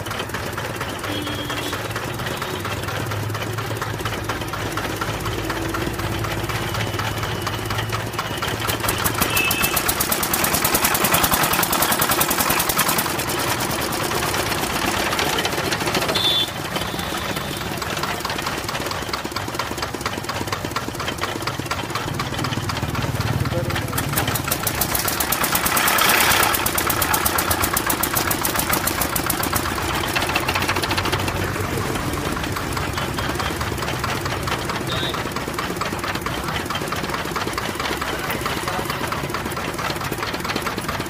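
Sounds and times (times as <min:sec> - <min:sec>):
diesel engine knocking: 0:00.0 - 0:41.0.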